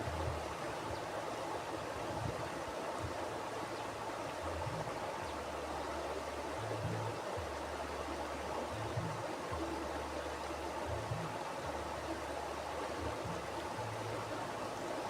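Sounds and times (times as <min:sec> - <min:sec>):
low water rumble: 0:00.0 - 0:15.0
river rushing over rocks: 0:00.0 - 0:15.0.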